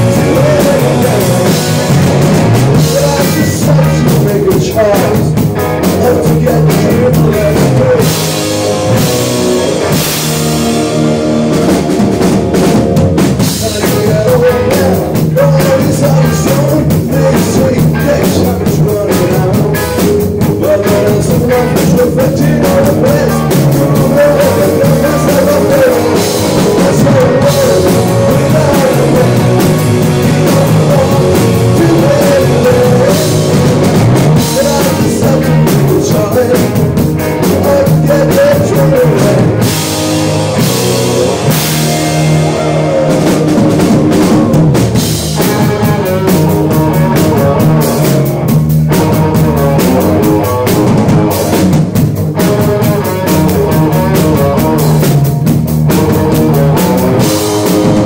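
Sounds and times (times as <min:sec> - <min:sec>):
male lead vocal: 0:00.0 - 0:10.2, 0:13.4 - 0:44.8, 0:45.4 - 0:48.4, 0:52.6 - 0:55.2, 0:56.0 - 0:58.0
drum kit: 0:00.0 - 0:58.0
electric bass: 0:00.0 - 0:58.0
electric guitars: 0:00.0 - 0:58.0.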